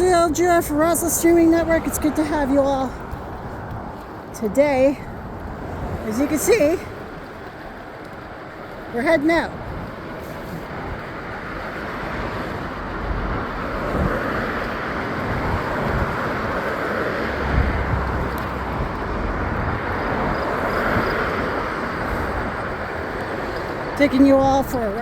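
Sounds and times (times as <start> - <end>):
scooter road noise: 0.0 - 25.0.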